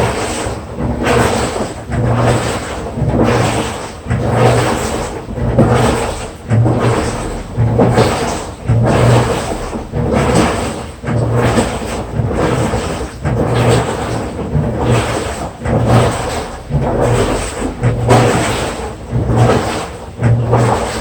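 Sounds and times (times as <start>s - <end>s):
washing machine drum turning: 0.0s - 21.0s
washing machine motor humming: 0.0s - 21.0s.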